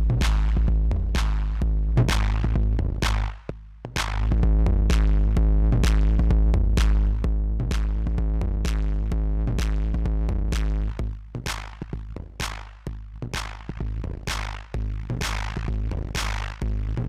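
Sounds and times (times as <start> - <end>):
busy hi-hats: 0.0 - 17.0
electronic drum machine beat: 0.0 - 17.0
heavy bass line: 0.0 - 17.0.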